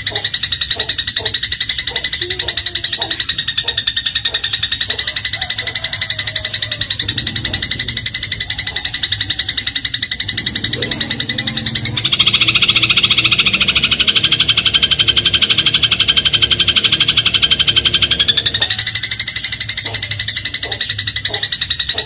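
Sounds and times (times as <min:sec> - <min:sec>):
sparrow rattling trill: 0:00.0 - 0:22.0.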